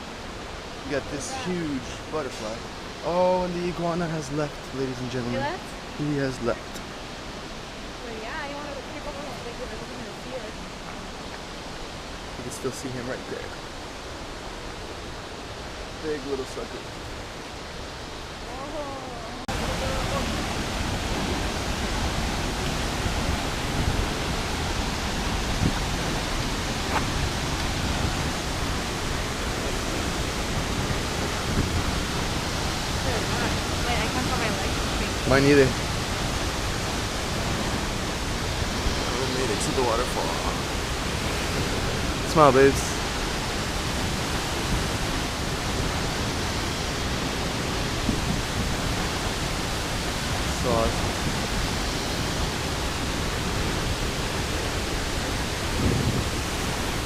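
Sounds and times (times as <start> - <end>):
large waterfall rushing: 0.0 - 57.0.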